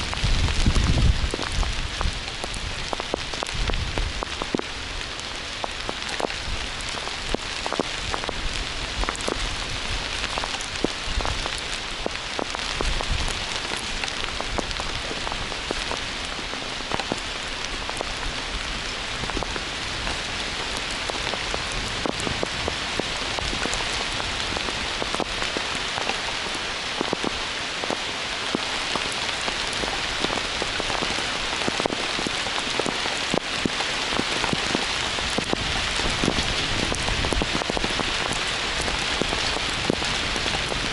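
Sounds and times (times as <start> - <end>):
heavy rain: 0.0 - 40.9
raindrops ticking close by: 0.0 - 40.9.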